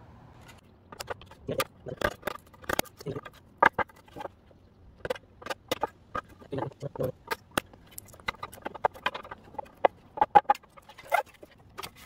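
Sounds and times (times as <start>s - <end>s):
chisel tapping and cracking wood: 0.9s - 4.4s, 5.0s - 12.0s.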